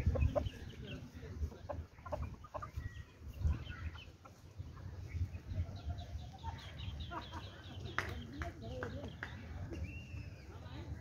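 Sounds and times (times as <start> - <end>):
chickens clucking: 0.0 - 9.8.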